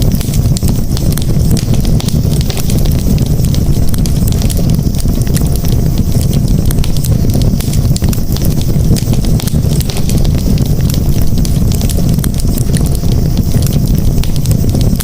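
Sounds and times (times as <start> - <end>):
campfire roar: 0.0 - 15.0
fire pops and crackles: 0.0 - 15.0.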